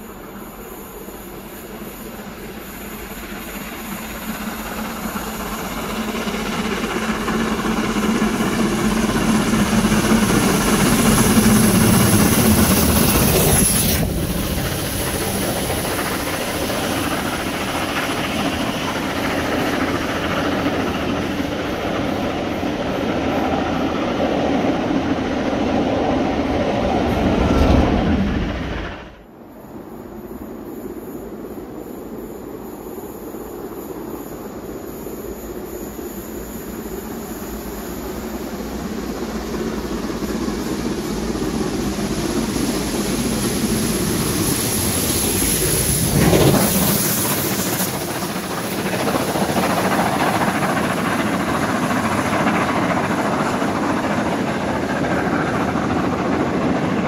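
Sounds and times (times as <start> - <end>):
steam locomotive working hard: 0.0 - 57.0.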